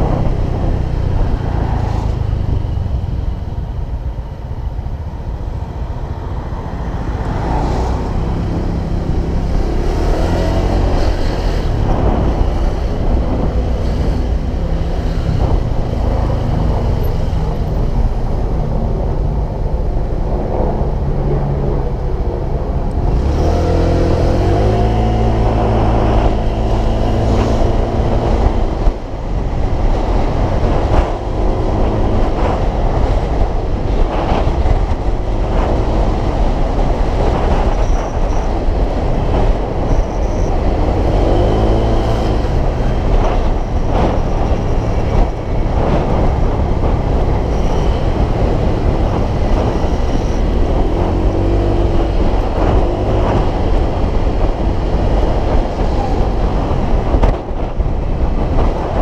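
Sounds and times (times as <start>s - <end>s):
road rumble: 0.0s - 59.0s
wind on microphone: 0.0s - 59.0s.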